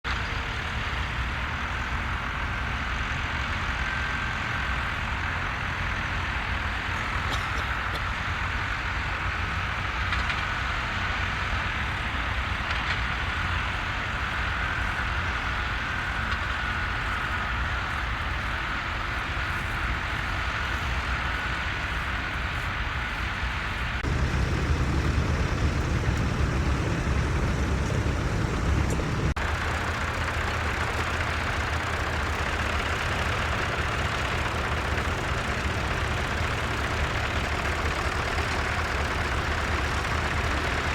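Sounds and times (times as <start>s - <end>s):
tractor engine droning: 0.1s - 40.9s.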